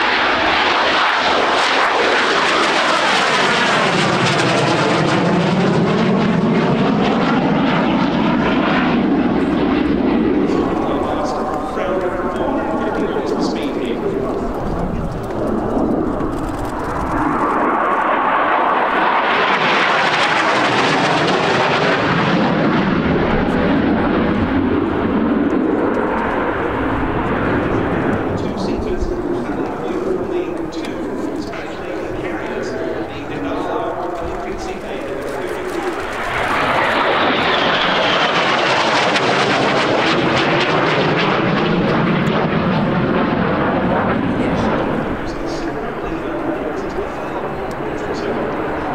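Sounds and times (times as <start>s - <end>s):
jet passing: 0.0s - 48.9s.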